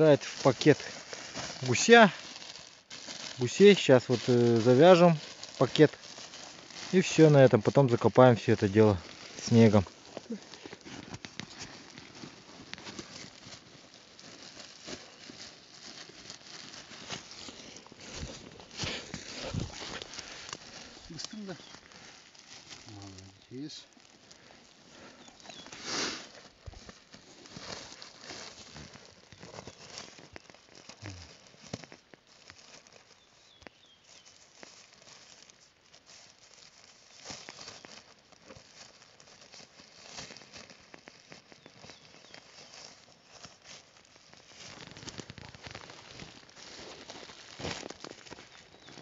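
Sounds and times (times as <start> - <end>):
plastic bag rustling and crinkling: 0.0 - 49.0.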